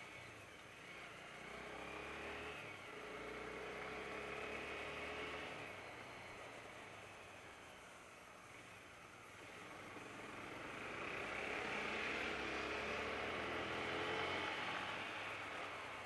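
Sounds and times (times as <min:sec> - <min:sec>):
motorcycle engine: 0:00.0 - 0:08.0, 0:08.6 - 0:16.0.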